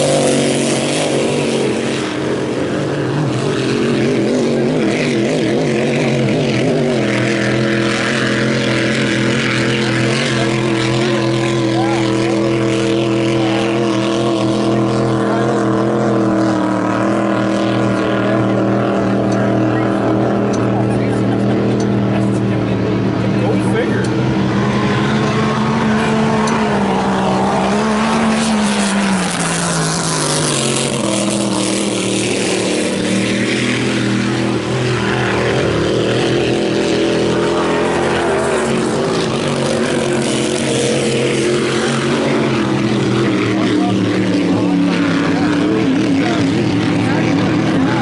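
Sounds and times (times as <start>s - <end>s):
boat engine running hard: 0.0s - 48.0s.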